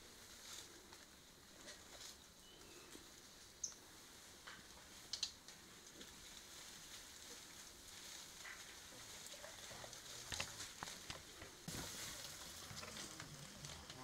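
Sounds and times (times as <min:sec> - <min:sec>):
faint rustles and crackles: 0:00.0 - 0:14.0.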